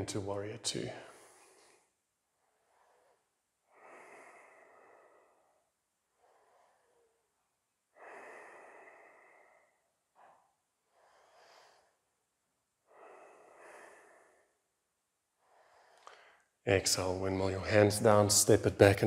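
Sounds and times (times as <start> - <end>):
person breathing slowly: 1.0 - 16.6.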